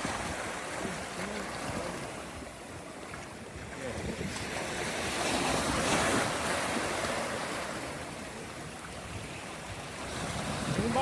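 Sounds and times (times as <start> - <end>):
surf washing up on beach: 0.0 - 11.0.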